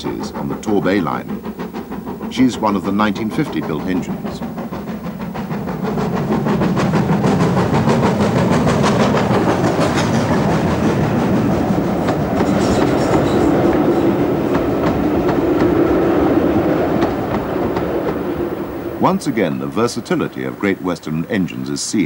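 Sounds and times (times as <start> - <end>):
steam locomotive passing: 0.0 - 22.0
train coaches rumbling: 0.0 - 22.0
wheels clacking over rail joints: 0.0 - 22.0.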